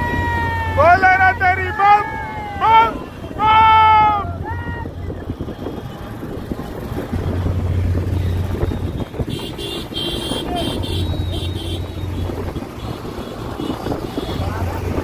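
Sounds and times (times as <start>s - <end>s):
engine hum: 0.0s - 15.0s
road and wind noise: 0.0s - 15.0s.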